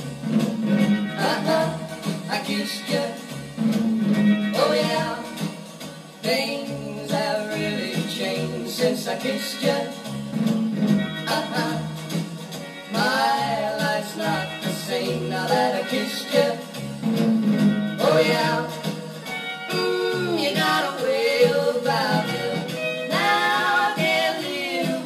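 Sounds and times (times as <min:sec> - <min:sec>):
song from record player speaker: 0:00.0 - 0:25.0.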